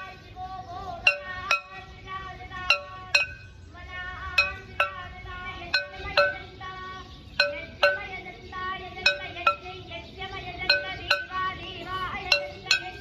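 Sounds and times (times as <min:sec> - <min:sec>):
bells ringing: 0:00.0 - 0:00.2, 0:01.0 - 0:03.6, 0:04.2 - 0:13.0.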